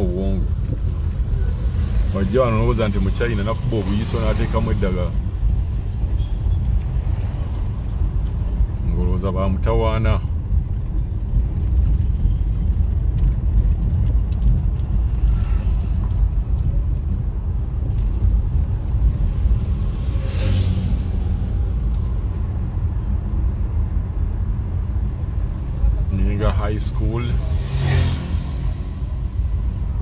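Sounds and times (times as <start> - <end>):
car driving slowly on road: 0.0 - 30.0.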